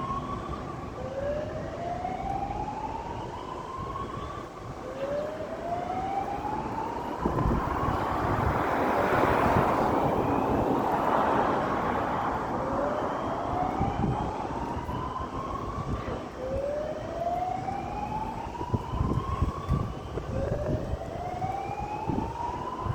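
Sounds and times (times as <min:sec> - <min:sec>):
broad rush of noise: 0:00.0 - 0:22.9.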